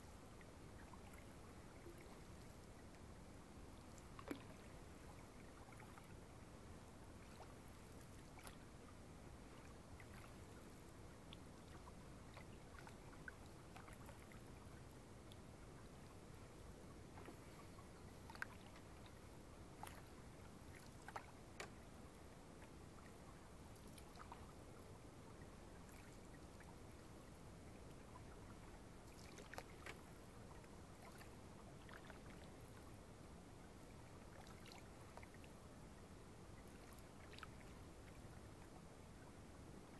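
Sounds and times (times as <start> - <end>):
low steady hiss: 0.0 - 39.9
paddle drips and splashes: 0.2 - 24.6, 25.7 - 27.1, 27.8 - 32.9, 34.2 - 35.6, 36.6 - 38.8.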